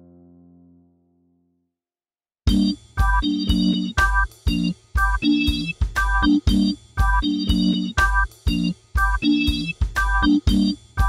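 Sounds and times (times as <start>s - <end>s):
keyboard chords: 0.0s - 1.4s, 2.5s - 11.0s.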